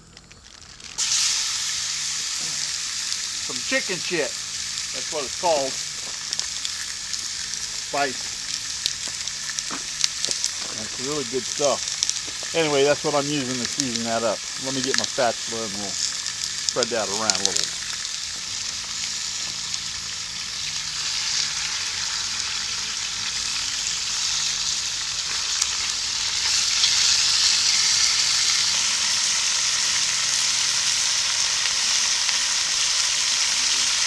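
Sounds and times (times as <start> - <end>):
chicken sizzling in hot oil: 0.0 - 34.0.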